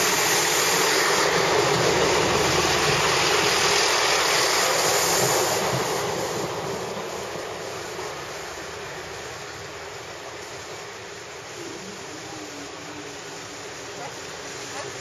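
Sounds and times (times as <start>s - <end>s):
train passing at speed: 0.0s - 15.0s
wheels rushing on rails: 0.0s - 15.0s.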